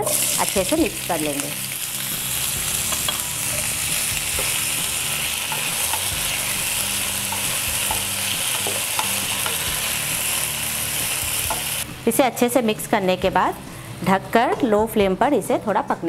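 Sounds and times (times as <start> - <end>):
potatoes sizzling in oil: 0.0 - 13.9.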